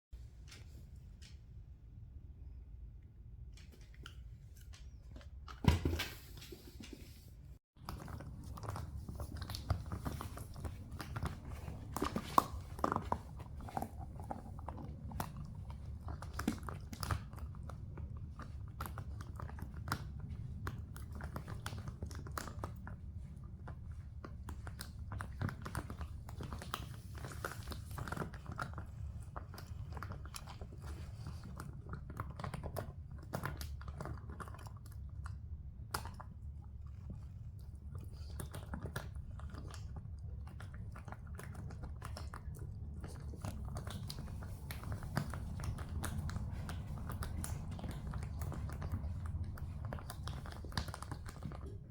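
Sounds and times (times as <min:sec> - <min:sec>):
dog chewing dry kibble: 0:07.8 - 0:51.9.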